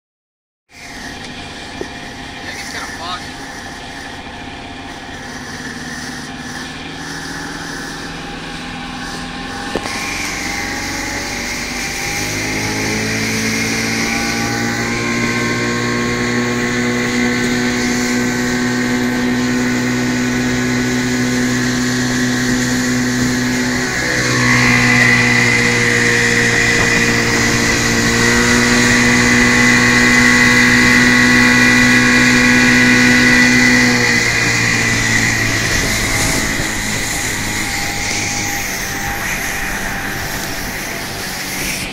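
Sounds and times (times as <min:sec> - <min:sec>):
outboard motor accelerating: 0:00.7 - 0:41.9
wind: 0:00.7 - 0:41.9.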